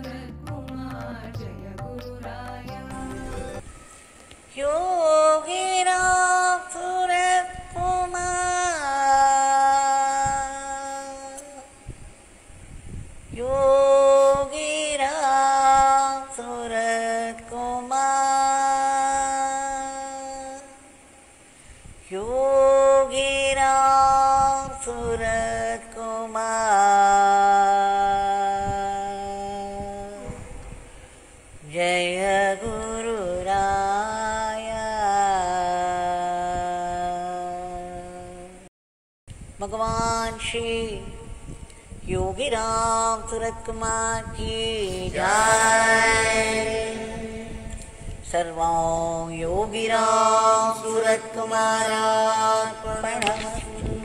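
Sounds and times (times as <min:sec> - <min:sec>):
woman singing slow chant: 0:00.0 - 0:38.7, 0:39.6 - 0:54.0.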